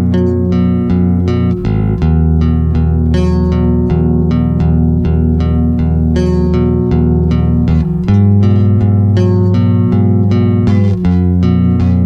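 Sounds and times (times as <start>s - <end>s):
held bass notes: 0.0s - 12.0s
plucked notes: 0.0s - 12.0s.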